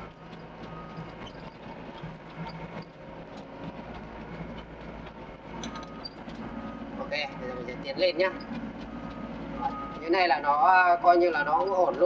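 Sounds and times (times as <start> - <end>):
excavator diesel engine running: 0.0 - 12.0
machine clanks and rattles: 0.0 - 12.0.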